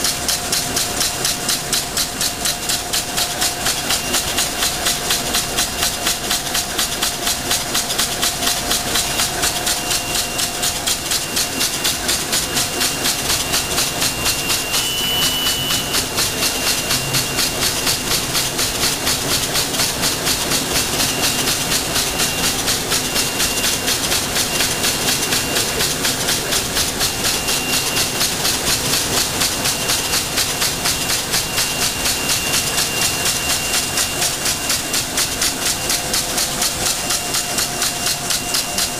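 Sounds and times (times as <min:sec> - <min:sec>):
machine clattering: 0:00.0 - 0:38.9.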